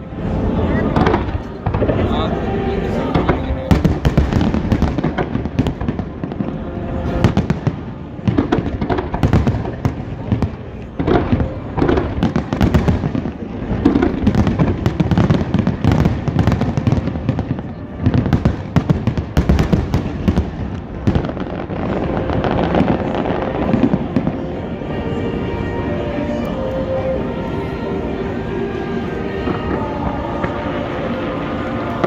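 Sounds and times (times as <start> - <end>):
continuous fireworks rumble: 0.0 - 32.0
fireworks bursting: 0.5 - 32.0.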